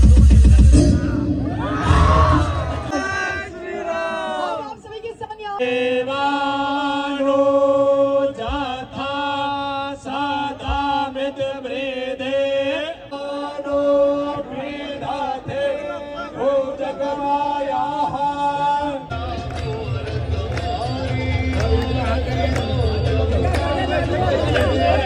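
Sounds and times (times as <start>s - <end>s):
male voices chanting: 0.7s - 4.7s, 5.6s - 25.0s.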